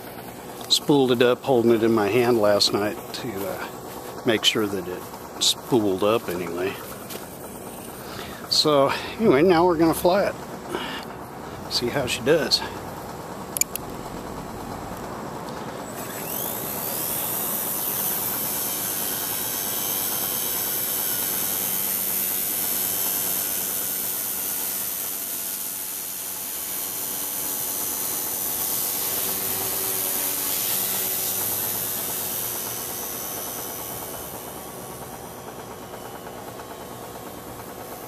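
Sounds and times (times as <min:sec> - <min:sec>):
rc helicopter motor whine: 0:00.0 - 0:38.0.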